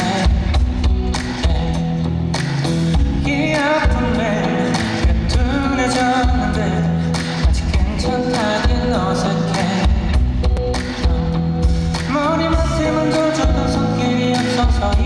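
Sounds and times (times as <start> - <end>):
man singing: 0.0 - 2.1, 2.9 - 15.0
live band bass and drums: 0.0 - 15.0.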